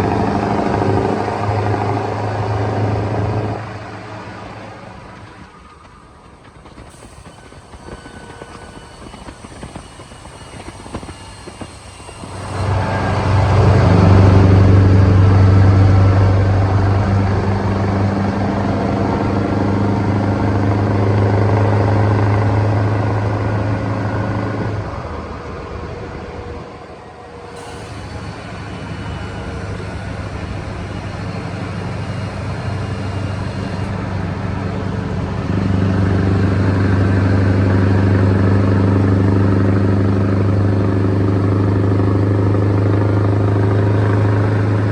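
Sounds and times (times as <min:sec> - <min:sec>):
truck engine droning: 0:00.0 - 0:44.9.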